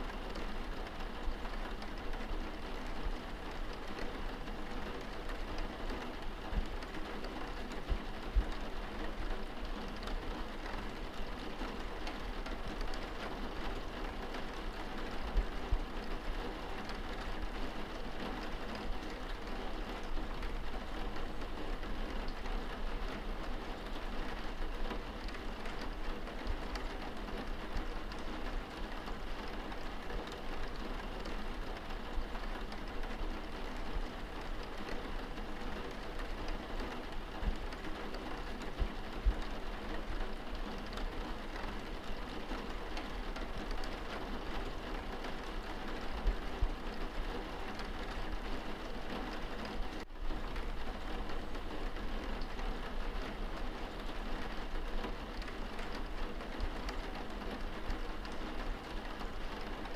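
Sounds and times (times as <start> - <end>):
rain on window glass: 0.0 - 59.9.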